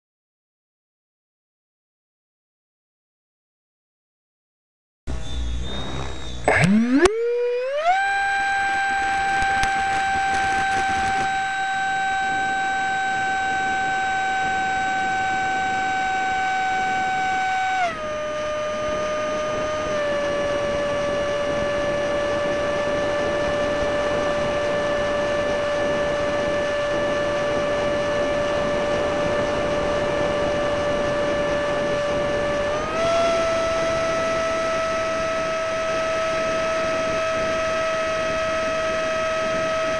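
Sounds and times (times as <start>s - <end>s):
electric ducted fan whine: 5.1s - 39.9s.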